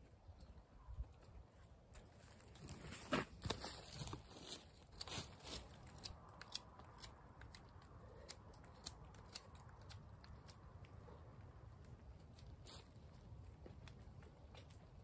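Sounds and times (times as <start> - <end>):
twigs and dry leaves snapping: 1.9 - 15.0.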